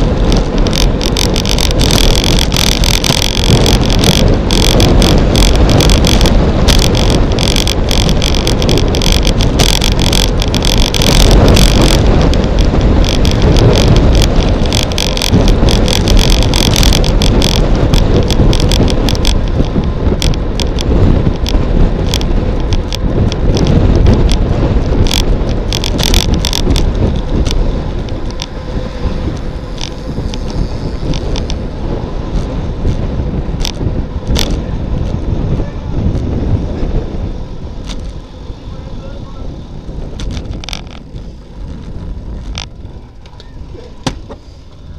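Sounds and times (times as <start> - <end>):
bicycle rattling clicks: 0.0 - 44.9
wind buffeting microphone: 0.0 - 44.9.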